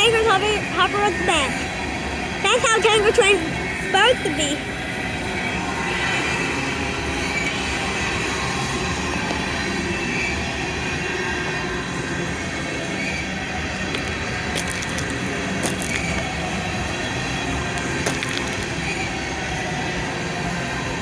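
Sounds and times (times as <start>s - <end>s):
high wheel squeal: 0.0s - 14.5s, 15.4s - 21.0s
train wheels rumbling on rail: 0.0s - 21.0s.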